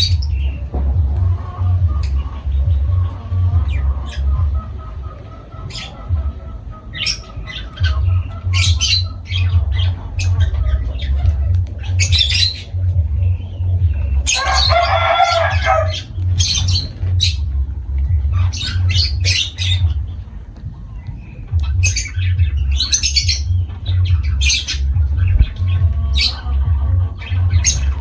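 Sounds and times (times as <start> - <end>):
lovebirds chirping and squawking: 0.0 - 28.0
low rumble: 0.0 - 28.0.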